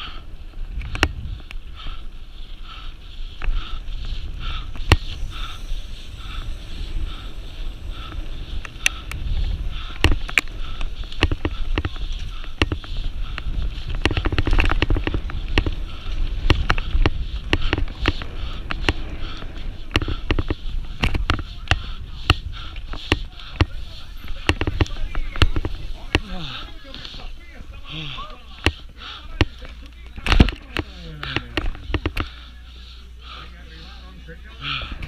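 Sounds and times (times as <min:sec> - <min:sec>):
low rumble: 0:00.0 - 0:28.1.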